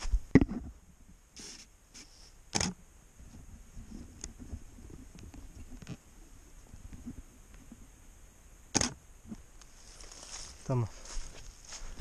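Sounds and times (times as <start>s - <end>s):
faint irregular crackling: 0.0s - 8.0s, 8.7s - 12.0s.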